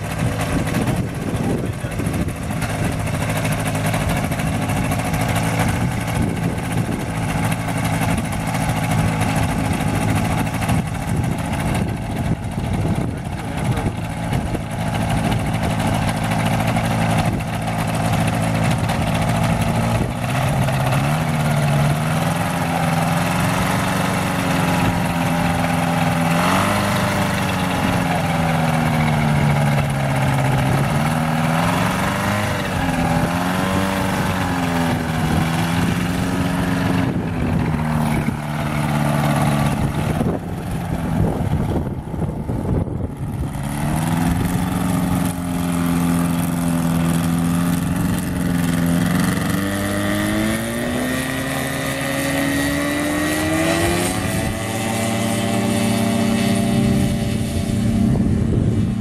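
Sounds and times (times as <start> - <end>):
ultralight engine and propeller: 0.0 - 59.0.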